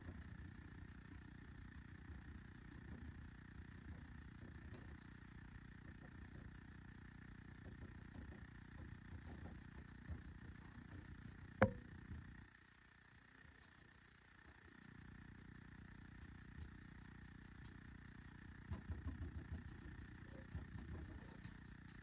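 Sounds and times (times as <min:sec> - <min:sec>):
low mechanical hum: 0:00.0 - 0:22.0
small irregular ticks: 0:00.0 - 0:22.0.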